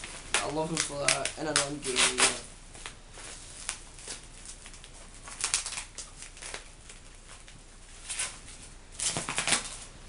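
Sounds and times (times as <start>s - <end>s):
packaging crinkling and tearing: 0.0s - 9.9s.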